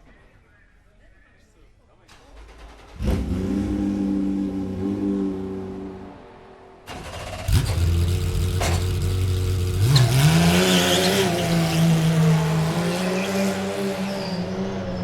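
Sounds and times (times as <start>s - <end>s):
racing car engine revving: 2.6s - 15.0s.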